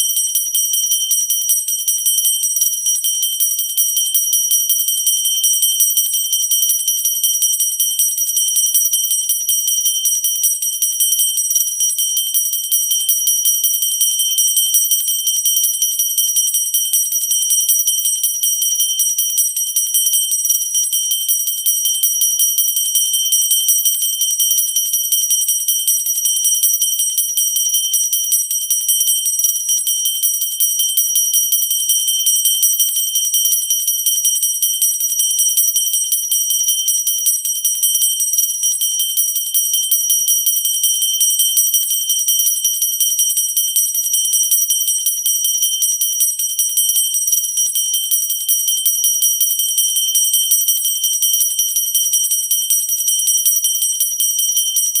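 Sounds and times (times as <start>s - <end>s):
hand bell ringing rapidly: 0.0s - 55.0s.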